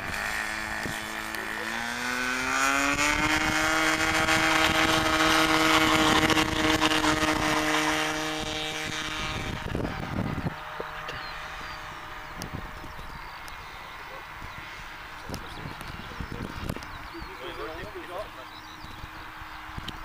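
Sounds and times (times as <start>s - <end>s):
model plane motor buzzing: 0.0s - 20.0s
rush of wind: 0.0s - 20.0s.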